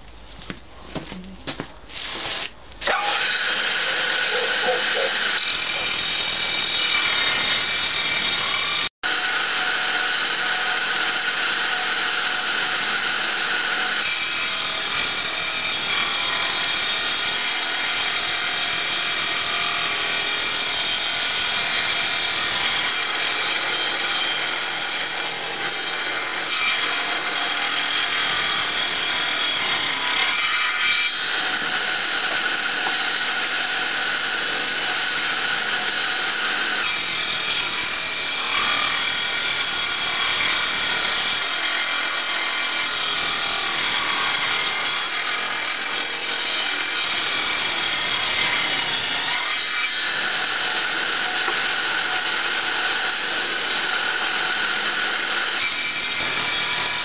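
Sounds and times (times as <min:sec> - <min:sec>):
circular saw cutting wood: 0:01.9 - 0:57.0.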